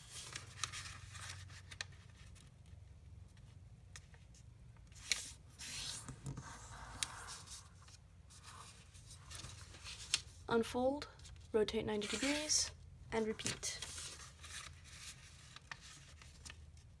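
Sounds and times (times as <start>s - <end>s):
paper rustling and folding: 0.0s - 10.5s, 11.2s - 12.6s, 13.2s - 17.0s.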